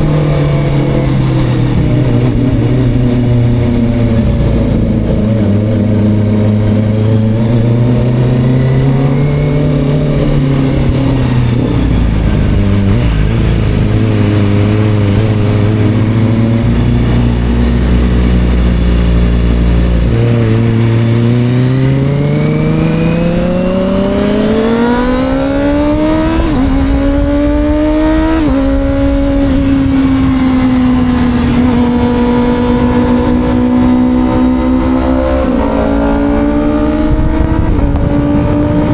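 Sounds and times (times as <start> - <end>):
gear changes: 0.0 - 38.9
low wind rumble: 0.0 - 38.9
motorcycle engine accelerating: 0.0 - 38.9.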